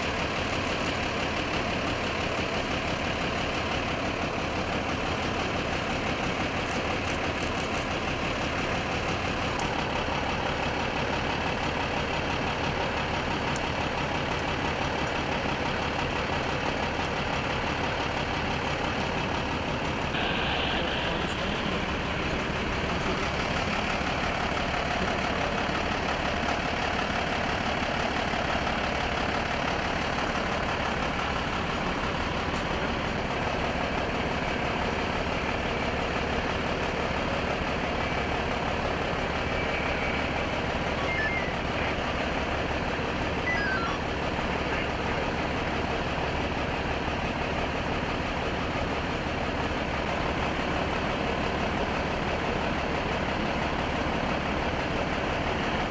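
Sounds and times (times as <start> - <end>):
large engine idling: 0.0 - 55.9.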